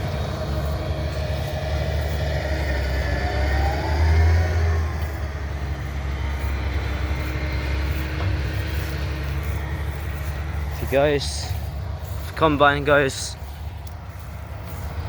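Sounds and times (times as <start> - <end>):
large diesel engine rumbling: 0.0 - 15.0.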